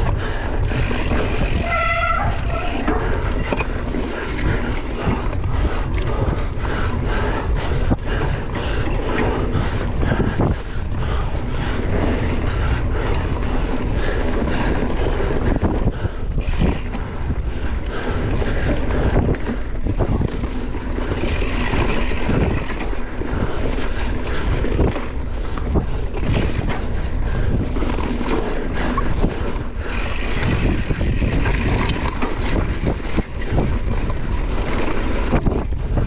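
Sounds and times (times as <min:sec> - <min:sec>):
bicycle rattling on rough ground: 0:00.0 - 0:36.0
wind rushing over microphone: 0:00.0 - 0:36.0.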